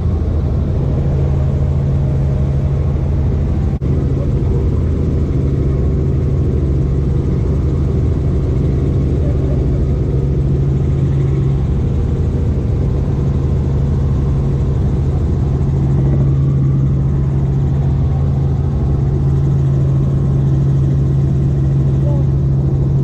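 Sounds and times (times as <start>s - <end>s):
helicopter engine and rotors droning: 0.0s - 23.0s.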